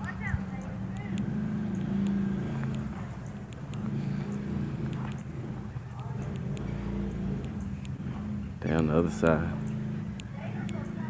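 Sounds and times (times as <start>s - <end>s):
small four-stroke engine running: 0.0s - 11.0s.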